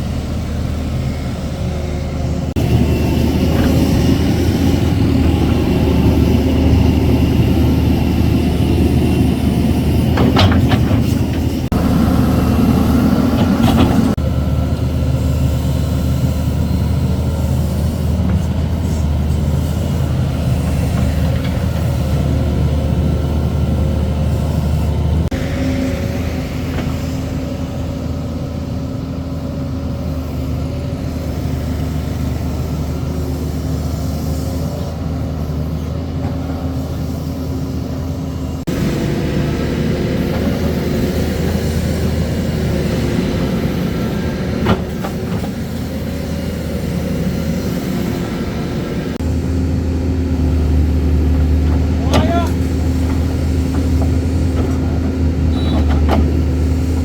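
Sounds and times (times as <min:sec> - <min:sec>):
crane engine humming: 0:00.0 - 0:57.0.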